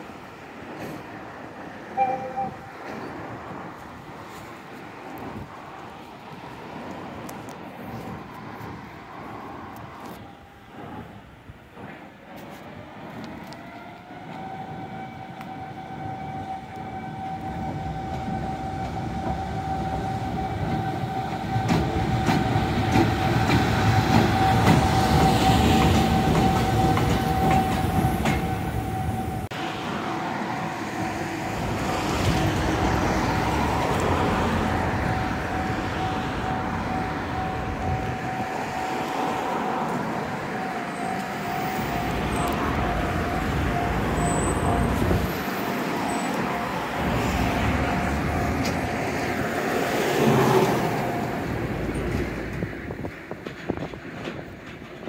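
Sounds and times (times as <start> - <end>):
electric locomotive whine: 0.0 - 55.0
wheels rumbling on track: 0.0 - 55.0.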